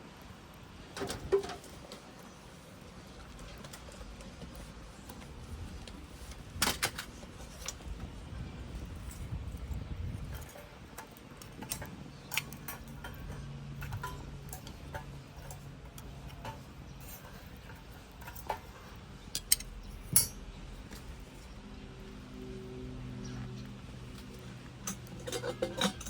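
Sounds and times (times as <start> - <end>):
wood fire crackling: 0.0 - 22.2.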